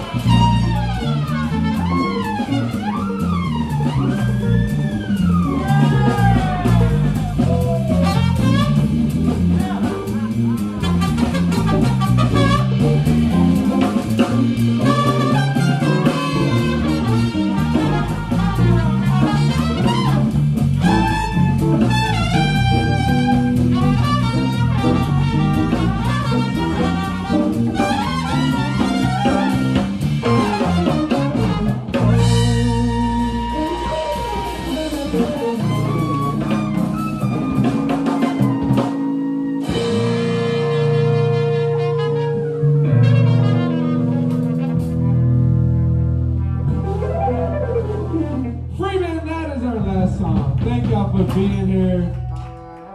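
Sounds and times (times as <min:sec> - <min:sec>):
archtop guitar strumming: 0:00.0 - 0:48.8
trumpet: 0:00.0 - 0:49.0, 0:52.1 - 0:52.9.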